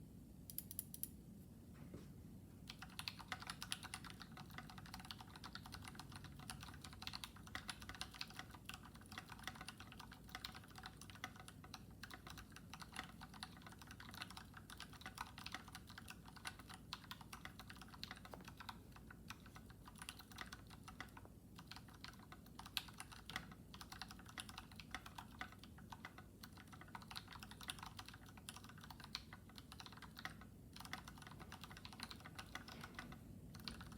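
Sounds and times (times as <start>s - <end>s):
fast mechanical keyboard typing: 2.7s - 33.9s.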